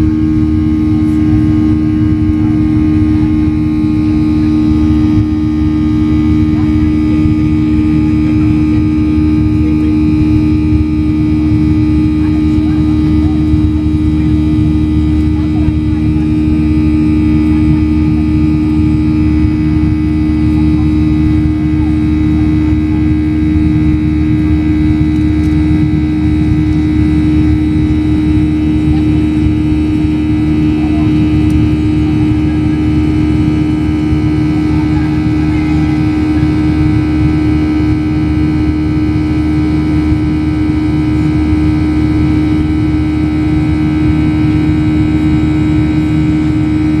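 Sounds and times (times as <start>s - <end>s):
jet engines droning in cabin: 0.0s - 47.0s.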